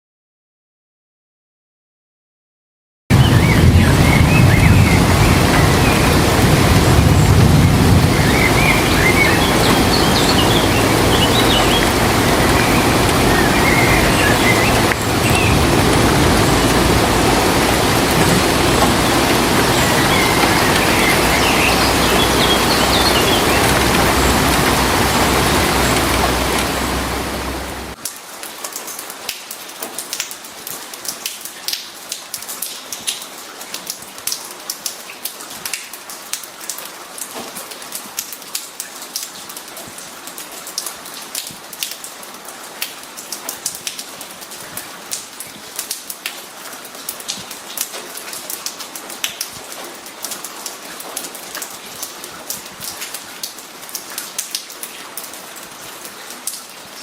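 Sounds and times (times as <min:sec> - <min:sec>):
heavy rain: 0:03.1 - 0:57.0
raindrops ticking on a surface: 0:03.1 - 0:57.0.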